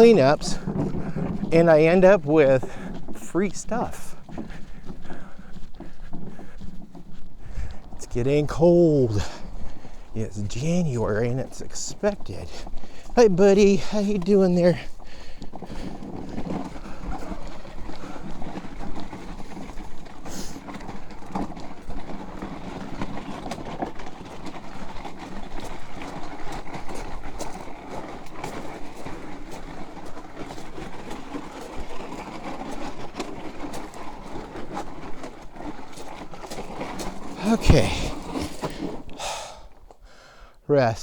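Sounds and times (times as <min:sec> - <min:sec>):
cart wheels rattling on rough ground: 0:00.0 - 0:41.0.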